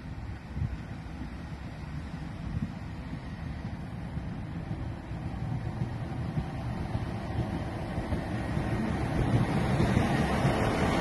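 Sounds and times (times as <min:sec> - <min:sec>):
train pulling into station: 0:00.0 - 0:11.0.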